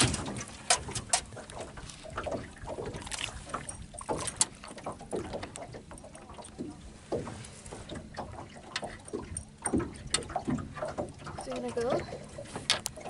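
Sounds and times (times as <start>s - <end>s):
light knocks on boat: 0.0s - 13.0s
small water splashes: 0.0s - 13.0s.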